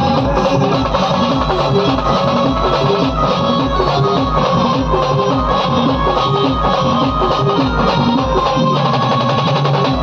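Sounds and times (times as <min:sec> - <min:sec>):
band music: 0:00.0 - 0:10.0
held melody line: 0:00.0 - 0:10.0
steady drum beat: 0:00.0 - 0:10.0.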